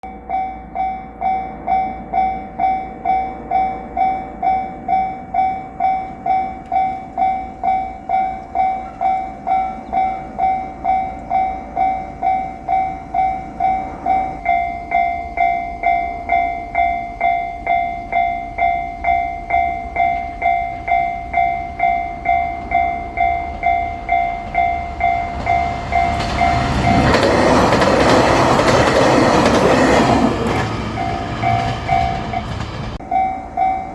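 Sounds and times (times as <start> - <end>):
diesel train passing: 0.0 - 33.9
level-crossing bell clanging: 0.0 - 33.9.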